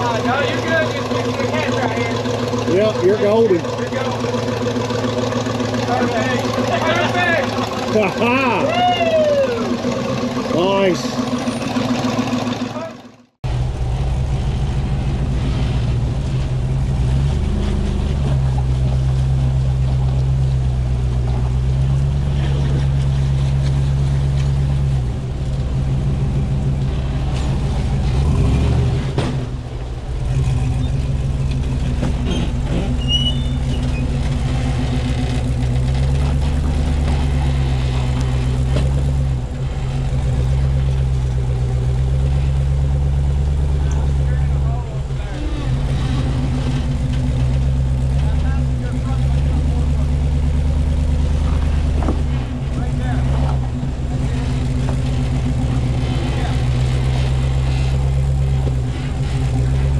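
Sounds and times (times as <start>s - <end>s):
off-road engine at low revs: 0.0s - 59.9s.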